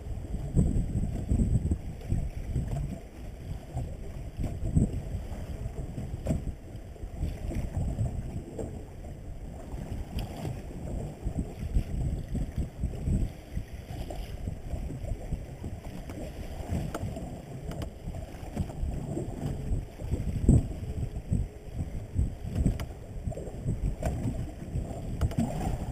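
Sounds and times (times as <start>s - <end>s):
water slapping boat hull: 0.0s - 25.9s
wind rumble: 0.0s - 25.9s.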